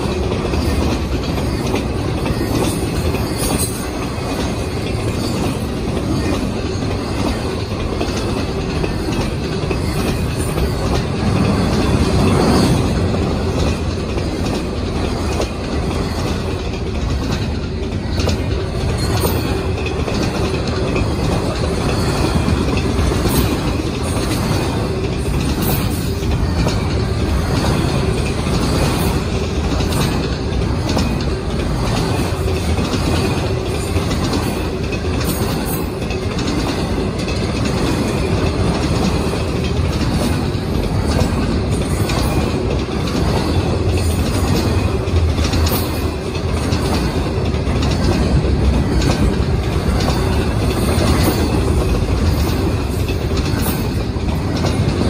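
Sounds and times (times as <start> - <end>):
freight train wheels rumbling: 0.0 - 55.0
wheel clicks over rail joints: 0.0 - 55.0.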